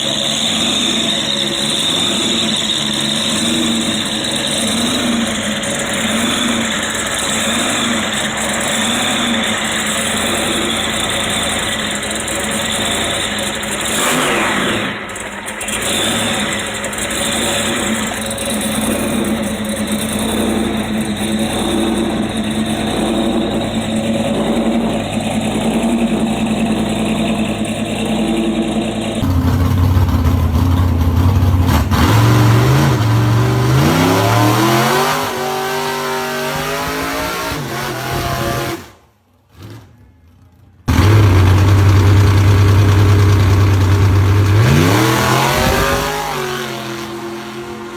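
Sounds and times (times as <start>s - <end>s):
engine revving up: 0.0s - 47.9s
hot-rod car engines running: 0.0s - 47.9s.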